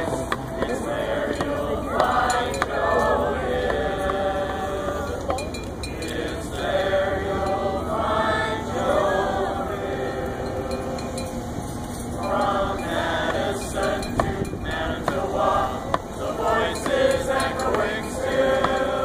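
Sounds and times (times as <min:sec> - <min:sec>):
group singing unaccompanied: 0:00.0 - 0:19.0.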